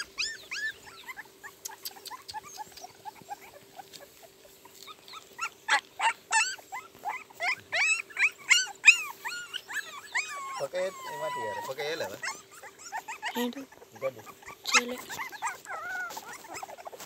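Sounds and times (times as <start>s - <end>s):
puppies whimpering and squeaking: 0.0s - 17.0s.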